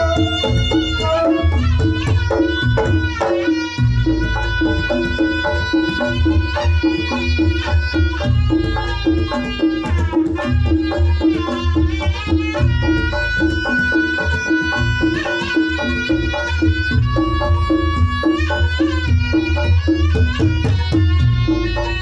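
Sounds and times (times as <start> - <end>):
hand drums: 0.0 - 22.0
reed shawm melody: 0.0 - 22.0.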